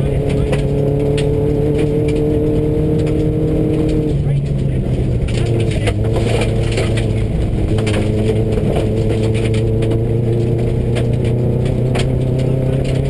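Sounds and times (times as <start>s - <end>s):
gravel striking car: 0.0s - 13.0s
rally car engine running hard: 0.0s - 13.0s.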